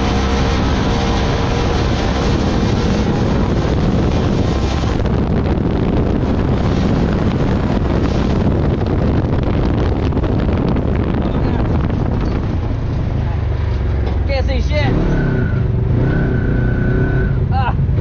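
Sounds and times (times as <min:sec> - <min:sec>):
off-road vehicle engine: 0:00.0 - 0:18.0
wind buffeting microphone: 0:00.0 - 0:18.0.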